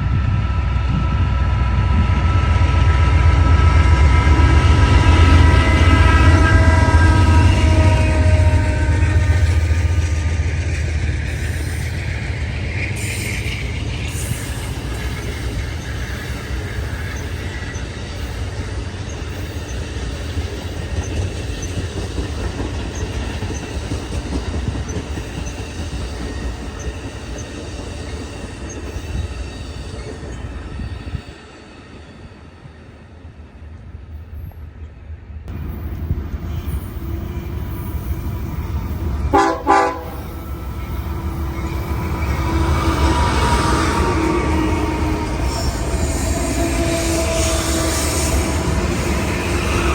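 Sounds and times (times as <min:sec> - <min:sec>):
diesel locomotive rumble: 0:00.0 - 0:31.3, 0:35.5 - 0:49.9
rolling train cars: 0:00.0 - 0:49.9.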